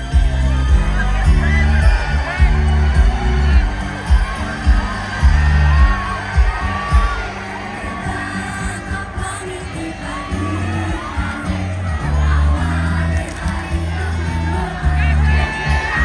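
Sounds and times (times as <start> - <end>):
concert crowd: 0.0 - 16.0
person singing: 0.0 - 16.0
pop song with heavy bass: 0.0 - 16.0.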